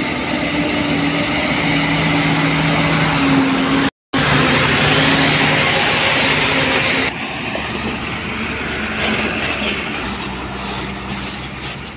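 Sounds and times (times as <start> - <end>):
diesel truck engine running: 0.0 - 11.9.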